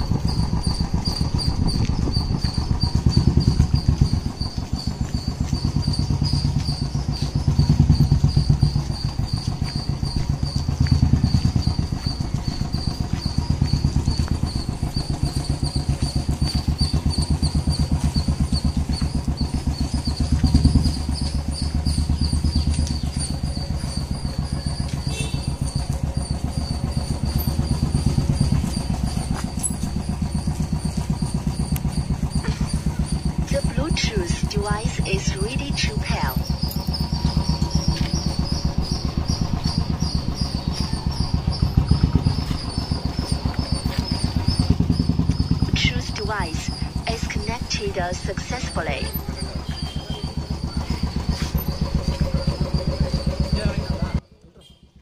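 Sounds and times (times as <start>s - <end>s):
motorcycle engine at low speed: 0.0s - 55.0s.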